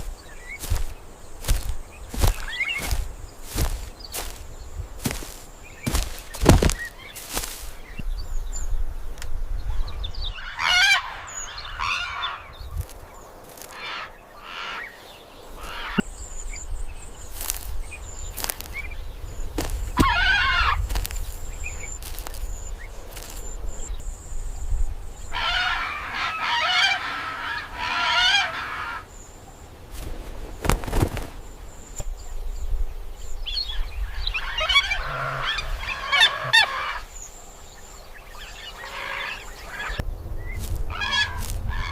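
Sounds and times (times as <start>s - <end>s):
bird calls: 0.0s - 41.9s.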